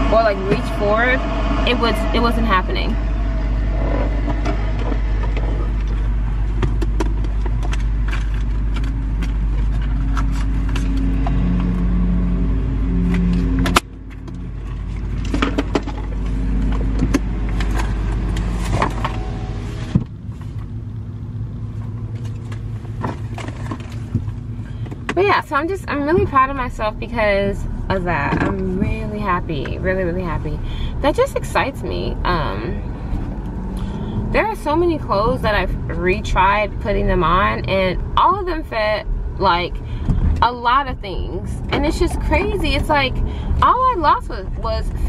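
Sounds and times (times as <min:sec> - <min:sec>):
road and engine rumble: 0:00.0 - 0:45.0.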